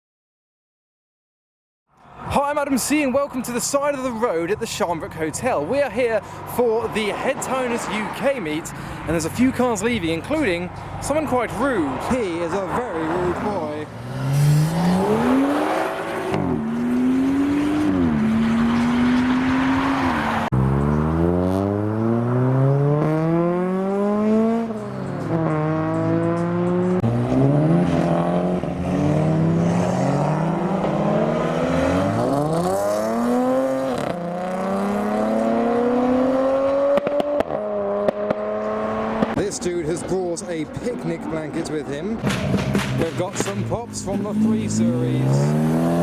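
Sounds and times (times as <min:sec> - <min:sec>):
car engines revving: 0:02.0 - 0:46.0.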